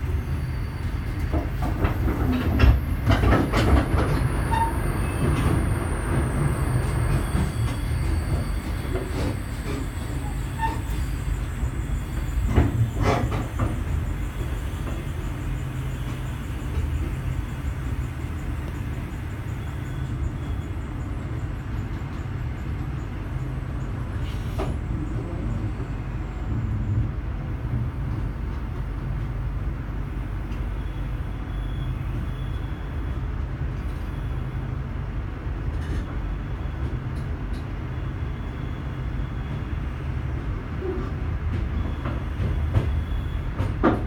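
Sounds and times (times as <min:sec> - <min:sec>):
passenger train low rumble: 0:00.0 - 0:44.0.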